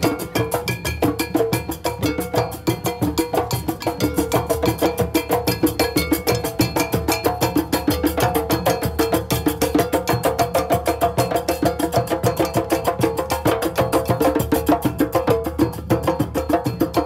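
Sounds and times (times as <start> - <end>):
hand drums playing: 0.0 - 17.0.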